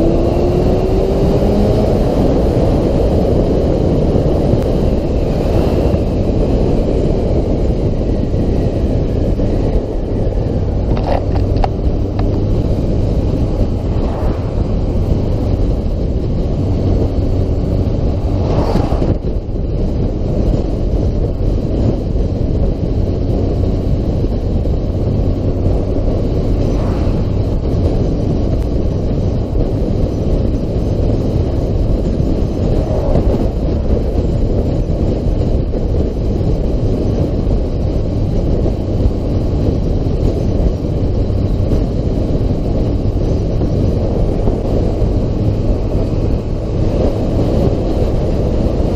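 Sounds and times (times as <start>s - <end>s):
motorcycle engine running: 0.0s - 48.9s
wind rushing over microphone: 0.0s - 48.9s.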